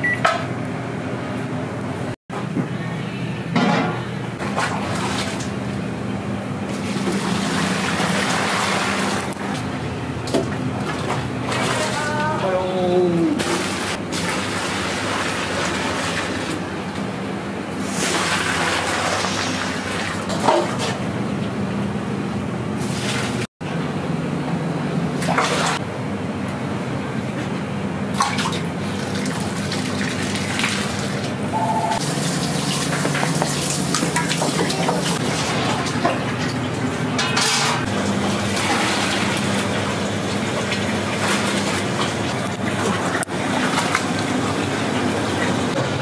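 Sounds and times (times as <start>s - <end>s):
low kitchen hum: 0.0s - 46.0s.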